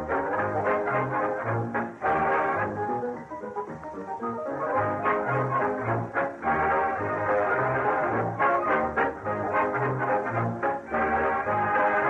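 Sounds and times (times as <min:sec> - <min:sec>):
brass instruments: 0:00.0 - 0:12.0.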